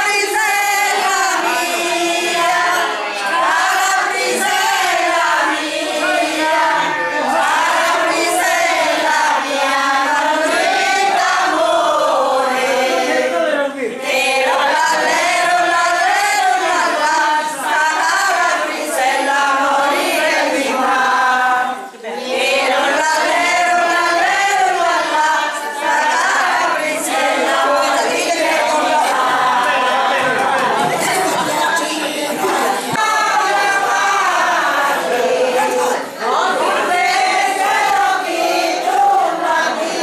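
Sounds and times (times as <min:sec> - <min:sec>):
women singing folk song: 0:00.0 - 0:40.0.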